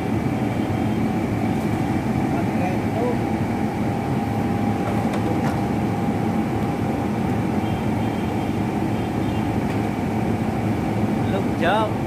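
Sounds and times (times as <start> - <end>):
whining tones: 0.0 - 11.2
machinery drone: 0.0 - 12.0.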